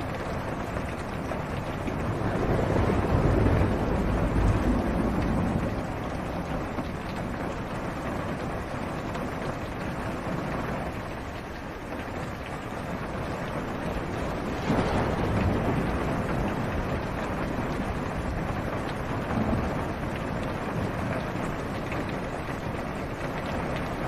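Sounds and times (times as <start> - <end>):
low rumble of thunder: 0.0 - 11.0, 12.3 - 24.0
rain on a car roof: 0.0 - 24.0.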